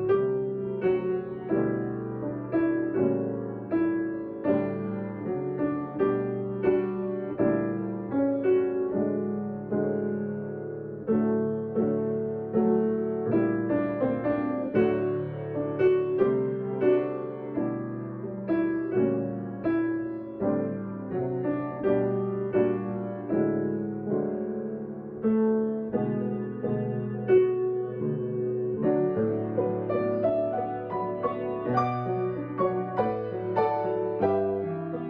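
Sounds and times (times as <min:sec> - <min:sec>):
slow gentle piano piece: 0:00.0 - 0:35.0.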